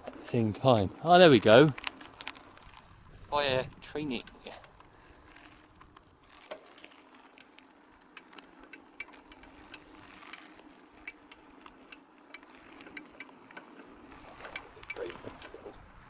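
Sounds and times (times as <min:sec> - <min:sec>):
bicycle ticks and rattles: 0:00.0 - 0:16.0.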